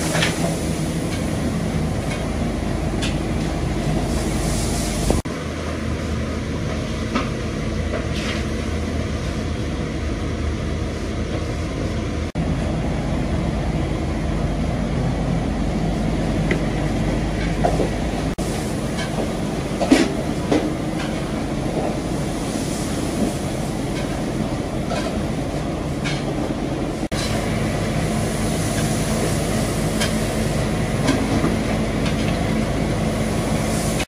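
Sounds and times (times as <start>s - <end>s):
mechanical rumble with low hum: 0.0s - 34.0s.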